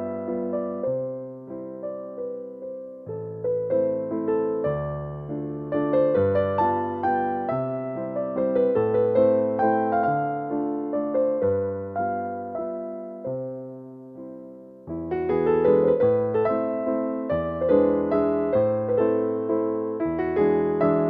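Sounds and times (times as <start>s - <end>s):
piano notes and chords: 0.0s - 21.0s.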